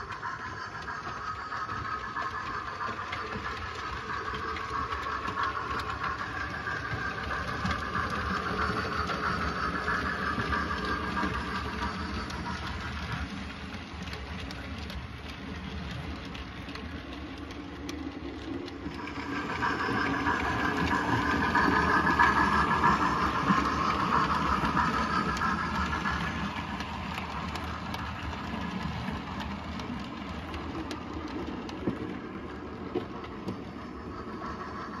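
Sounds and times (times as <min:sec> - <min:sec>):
model train running on track: 0:00.0 - 0:35.0.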